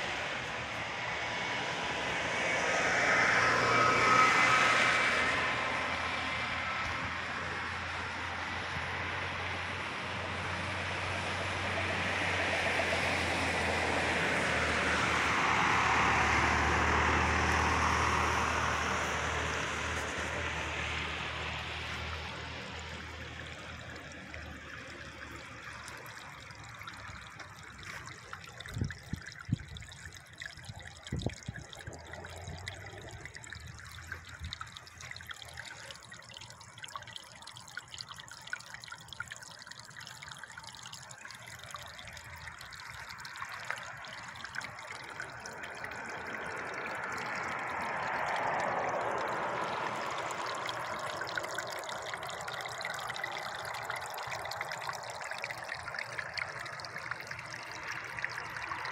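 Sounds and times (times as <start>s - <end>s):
water trickling into a hole: 0.0s - 58.9s.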